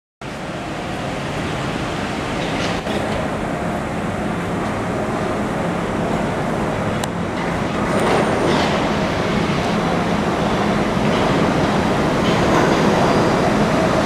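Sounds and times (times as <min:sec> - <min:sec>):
subway train rumbling: 0:00.2 - 0:14.0.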